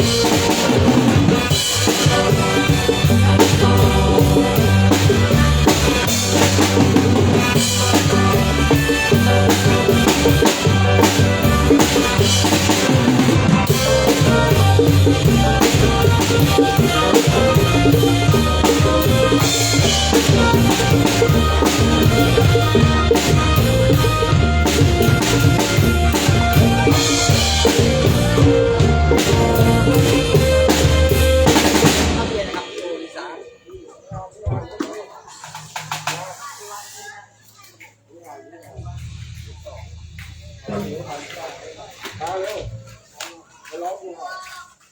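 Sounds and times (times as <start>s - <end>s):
band playing a song: 0.0s - 37.1s, 38.6s - 43.7s
drum kit beat: 0.0s - 37.5s, 38.4s - 43.9s.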